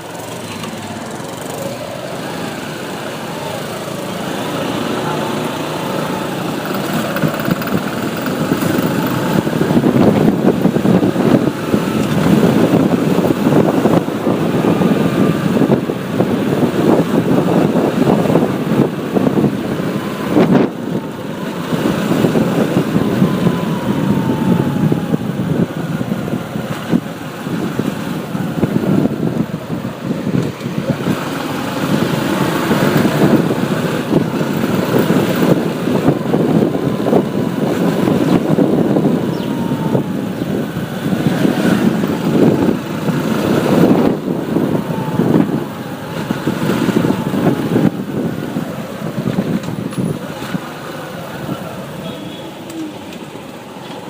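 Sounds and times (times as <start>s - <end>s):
motorcycle engine riding: 0.0s - 54.0s
vehicles passing: 0.0s - 54.0s.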